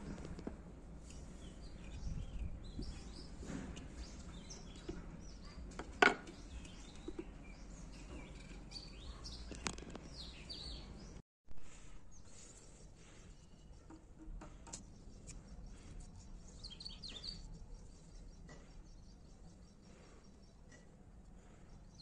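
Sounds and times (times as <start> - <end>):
small birds chirping: 1.0 - 11.2, 12.1 - 22.0.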